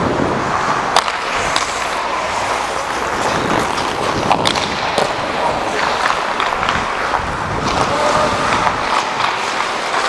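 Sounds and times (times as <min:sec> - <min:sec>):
skates scraping on ice: 0:00.2 - 0:10.0
hockey sticks and puck clacking: 0:00.5 - 0:10.0.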